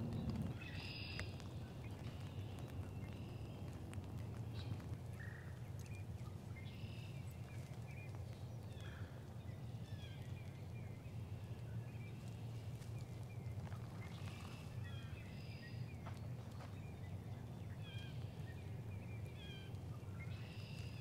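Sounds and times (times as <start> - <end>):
faint birdsong: 0.0 - 21.0
steady low rumble: 0.0 - 21.0.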